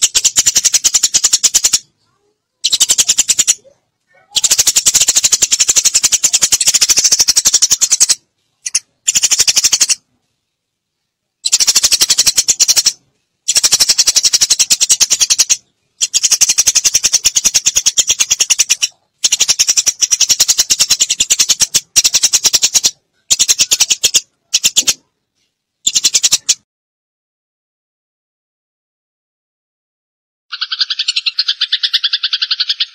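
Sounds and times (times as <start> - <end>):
sparrows chirping: 0.0 - 10.0, 11.4 - 25.1, 25.8 - 26.6, 30.5 - 32.9.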